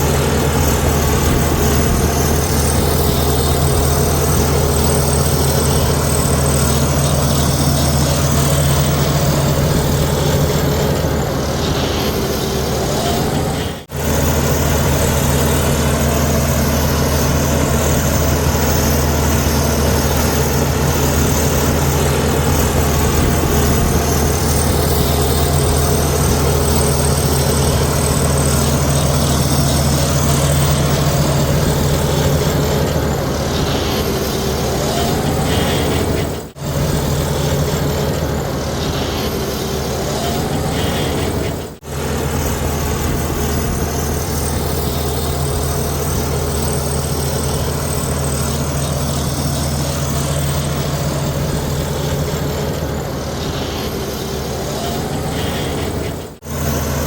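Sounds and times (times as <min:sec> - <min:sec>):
heavy diesel engine droning: 0:00.0 - 0:57.0
rising engine whine: 0:00.0 - 0:57.0.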